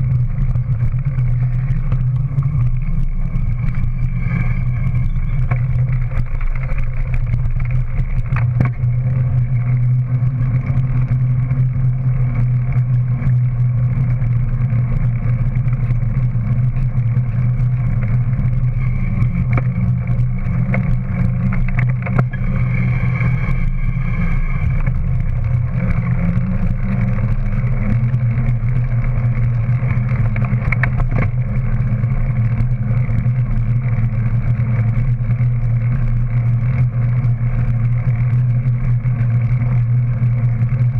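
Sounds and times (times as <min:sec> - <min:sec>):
road and wind rumble: 0:00.0 - 0:40.9.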